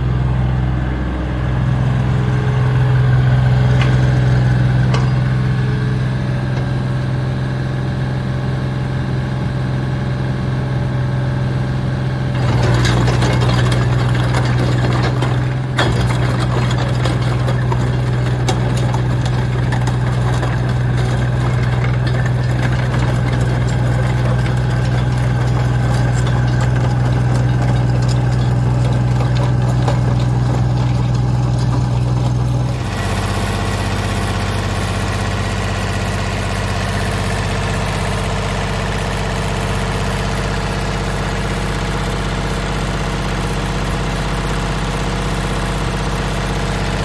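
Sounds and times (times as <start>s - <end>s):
small diesel engine running: 0.0s - 47.0s.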